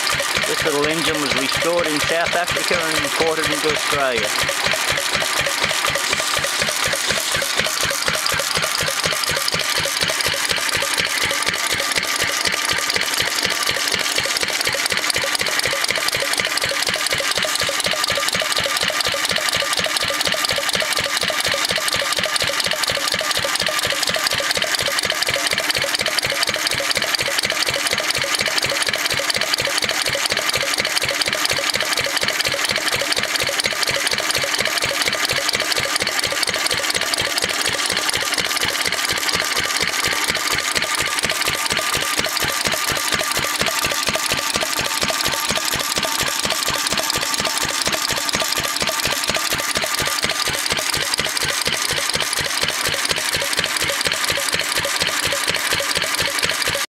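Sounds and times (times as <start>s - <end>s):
stationary engine running: 0.0s - 56.9s.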